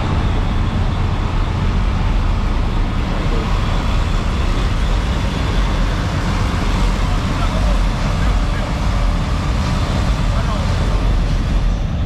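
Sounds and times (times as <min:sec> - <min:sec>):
noisy haze: 0:00.0 - 0:12.0
vehicle engines rumbling: 0:00.0 - 0:12.0.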